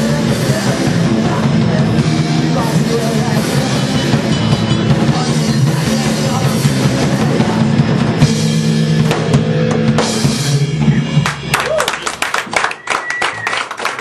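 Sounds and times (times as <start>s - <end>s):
pounding drums: 0.0s - 11.8s
punk rock band playing: 0.0s - 13.4s.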